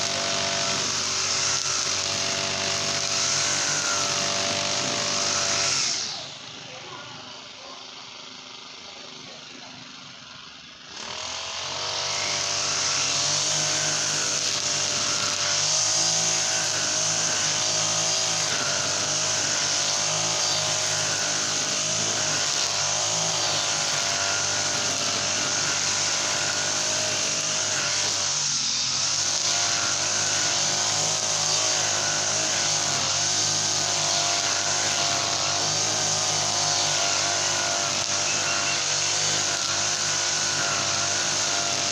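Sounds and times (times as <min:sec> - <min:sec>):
brush cutter engine revving: 0:00.0 - 0:41.9.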